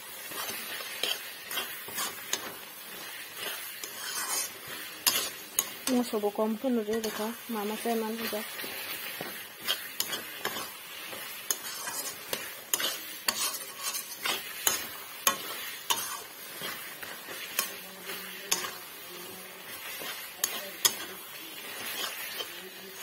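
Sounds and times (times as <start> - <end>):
syrup sizzling: 0.0 - 23.0
metal spoon scraping pan: 0.1 - 23.0.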